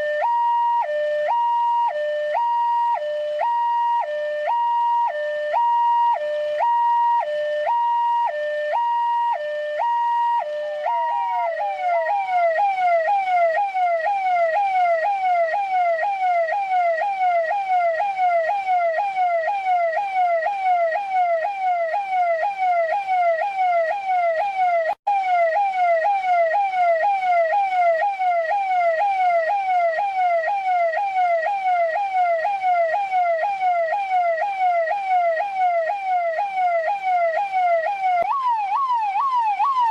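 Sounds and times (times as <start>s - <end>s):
police car siren: 0.0s - 39.9s.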